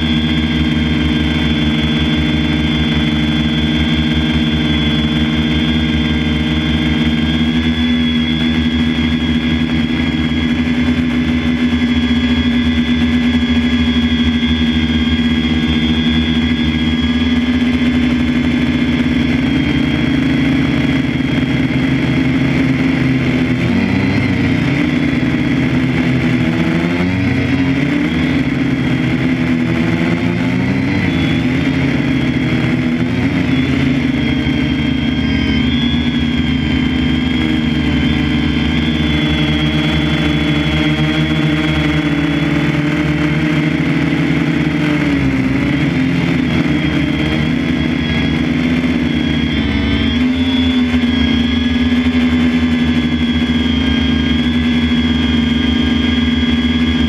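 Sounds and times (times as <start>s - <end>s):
motor running loudly: 0.0s - 57.0s.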